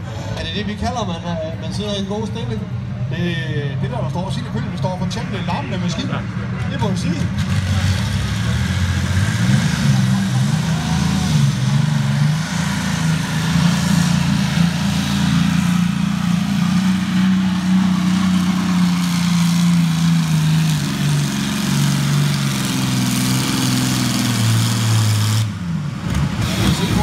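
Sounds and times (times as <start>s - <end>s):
tractor engine under heavy load: 0.0s - 27.0s.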